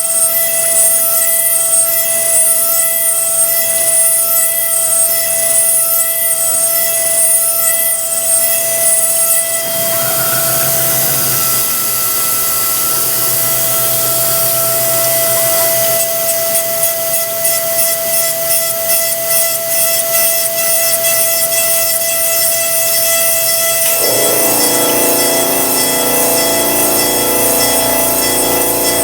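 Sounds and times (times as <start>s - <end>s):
high spindle whine: 0.0s - 29.0s.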